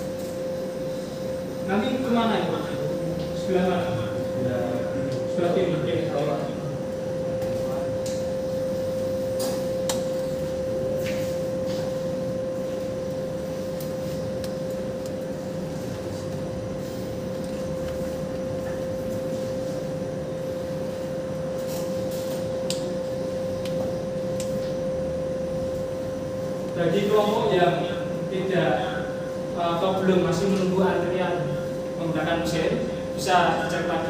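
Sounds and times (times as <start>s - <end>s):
steady mid-high hum: 0.0s - 34.0s.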